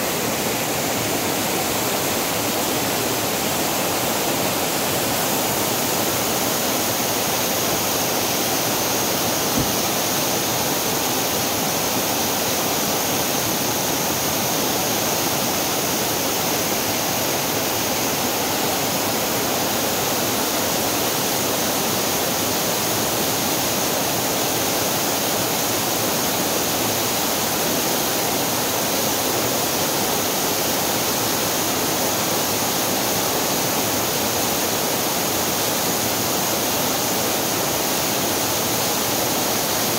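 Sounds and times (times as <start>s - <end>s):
waterfall rushing onto rocks: 0.0s - 39.9s.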